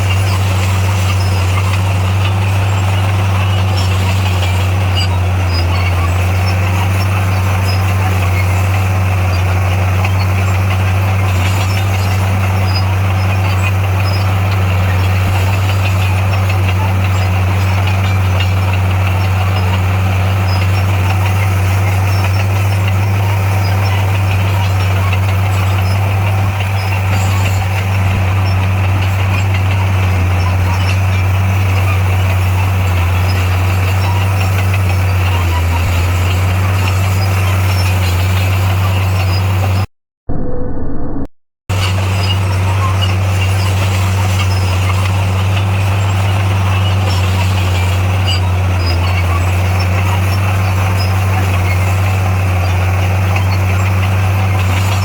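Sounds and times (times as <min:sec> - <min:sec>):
diesel earthmoving machinery drone: 0:00.0 - 0:55.0.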